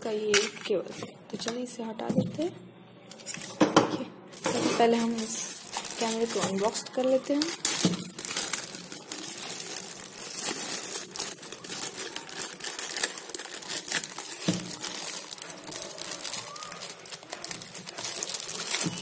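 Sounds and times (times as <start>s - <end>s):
plastic bag crinkling: 3.1s - 3.7s, 4.3s - 19.0s.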